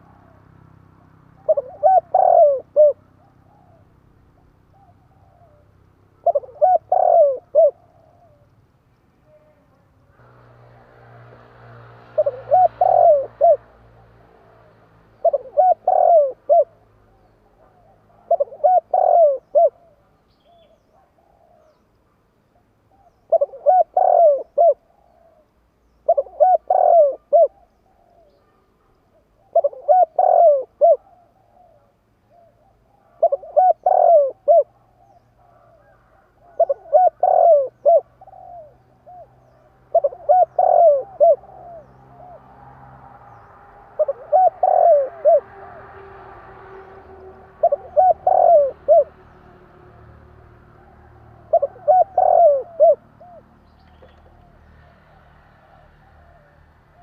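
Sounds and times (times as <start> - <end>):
dove cooing: 1.3 - 8.5, 12.1 - 21.8, 22.9 - 42.6, 43.3 - 45.9, 46.7 - 57.0.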